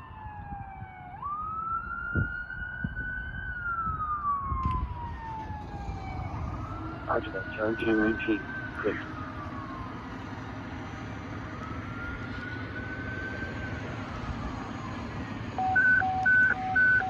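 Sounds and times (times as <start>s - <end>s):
fire engine siren wail: 0.0s - 17.0s
low vehicle rumble: 0.0s - 17.0s.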